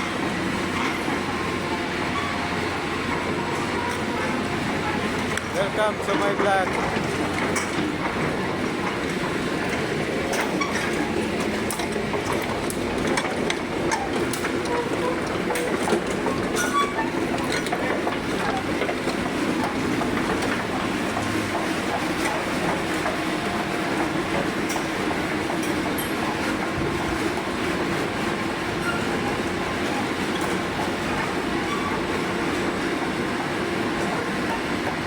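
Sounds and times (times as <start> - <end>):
backhoe running: 0.0 - 35.0.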